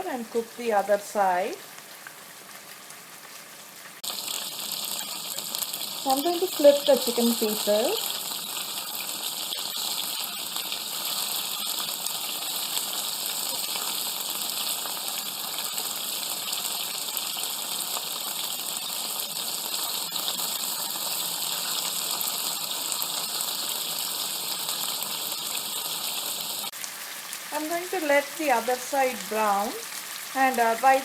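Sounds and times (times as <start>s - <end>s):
chicken frying in hot oil: 0.0s - 31.0s.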